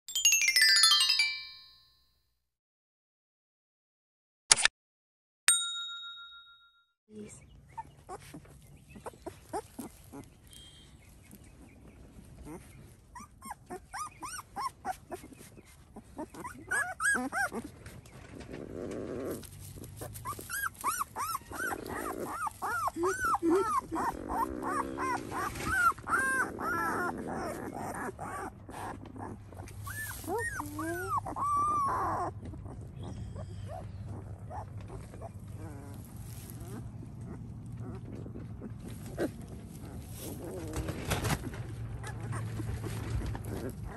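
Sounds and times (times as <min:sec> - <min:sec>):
puppies whining and squeaking: 0:07.2 - 0:43.9.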